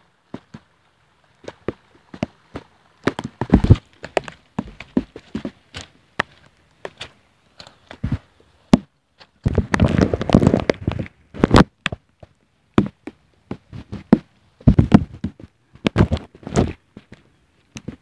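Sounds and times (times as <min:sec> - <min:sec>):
footsteps on mountain trail: 0:00.3 - 0:00.7, 0:01.4 - 0:18.0
feet scuffling: 0:01.4 - 0:11.7, 0:12.8 - 0:18.0.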